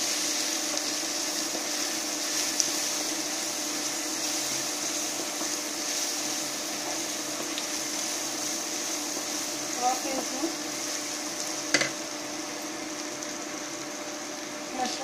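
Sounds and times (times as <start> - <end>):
onions sizzling in a pan: 0.0 - 15.0
steady hum: 0.0 - 15.0.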